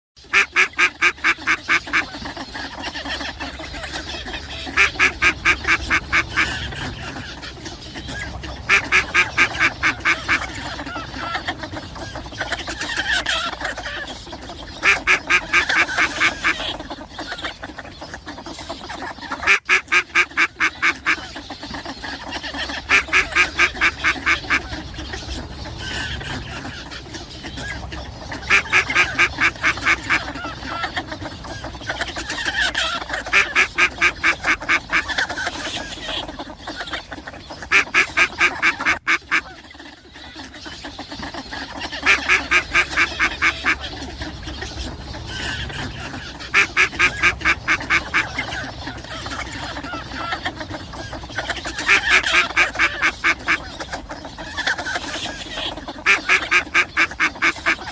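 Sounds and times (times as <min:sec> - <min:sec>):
ducks chattering: 0:00.2 - 0:57.9
ducks quacking rapidly: 0:00.2 - 0:57.9.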